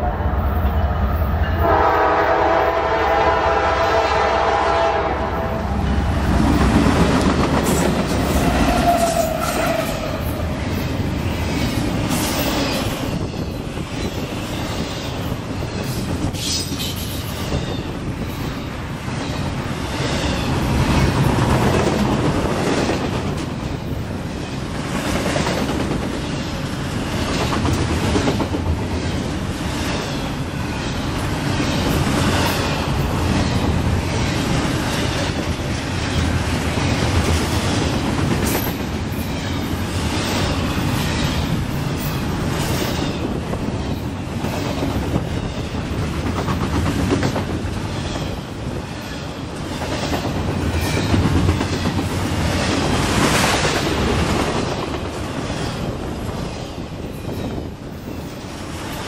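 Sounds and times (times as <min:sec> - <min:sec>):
freight train wheels rumbling: 0:00.0 - 0:59.0
clickety-clack over rail joints: 0:05.8 - 0:59.0.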